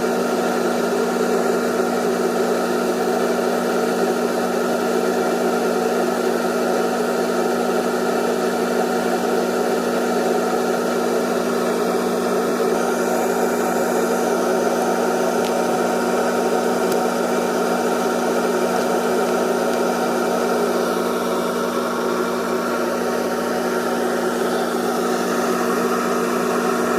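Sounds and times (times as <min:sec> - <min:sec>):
electric motor humming: 0:00.0 - 0:26.9.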